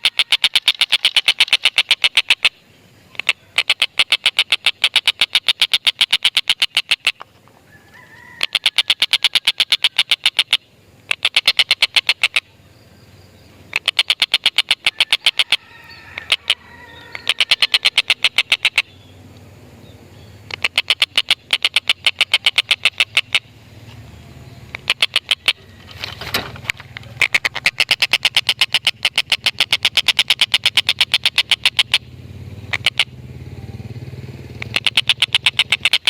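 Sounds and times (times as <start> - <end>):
kingfisher cackling call: 0.0 - 7.2, 8.2 - 12.5, 13.7 - 19.0, 20.4 - 23.6, 24.7 - 25.9, 26.8 - 33.2, 34.6 - 36.0.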